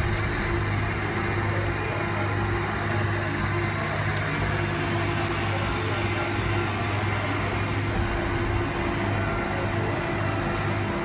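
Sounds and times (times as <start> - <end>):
machine engine droning with whine: 0.0 - 11.0.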